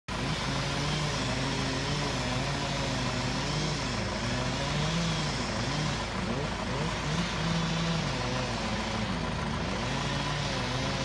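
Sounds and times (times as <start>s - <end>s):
chainsaw cutting wood: 0.1s - 11.0s.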